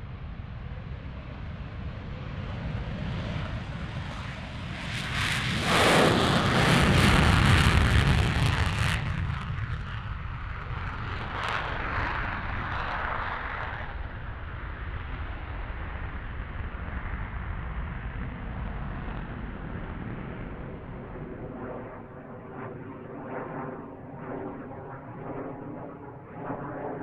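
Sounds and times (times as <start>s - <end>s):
jet engine rumble: 0.0s - 27.0s.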